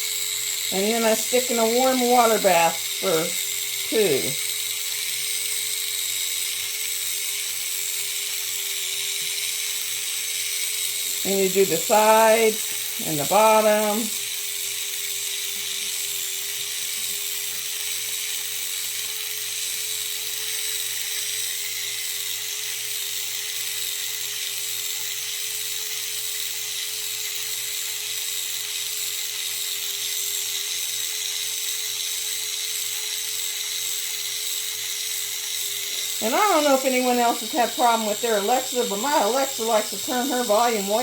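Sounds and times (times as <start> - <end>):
electric resin mixer whine: 0.0 - 41.0.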